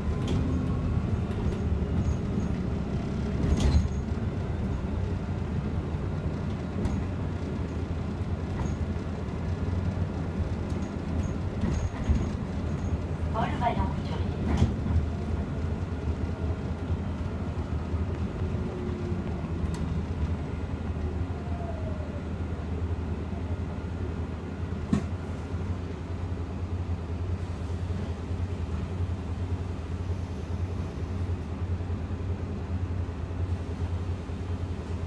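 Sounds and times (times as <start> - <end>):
bus cabin low rumble: 0.0 - 35.0.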